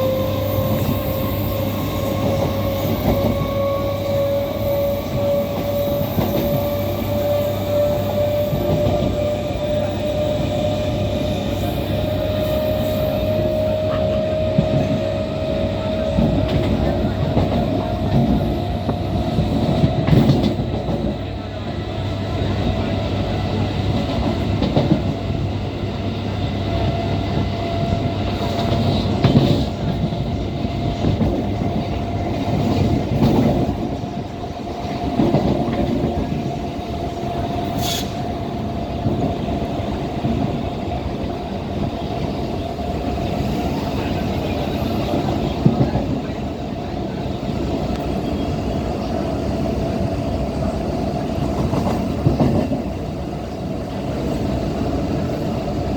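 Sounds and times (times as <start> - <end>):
steady train whine: 0.0 - 55.9
train knocks: 0.0 - 55.9
train wheels rumbling on rail: 0.0 - 55.9.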